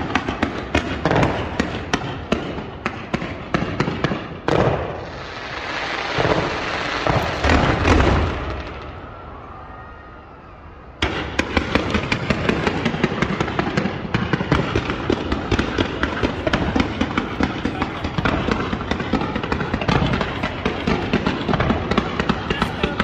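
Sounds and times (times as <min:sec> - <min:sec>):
fireworks crackling pops: 0:00.0 - 0:09.0, 0:11.0 - 0:23.0
fireworks rumble: 0:00.0 - 0:23.0.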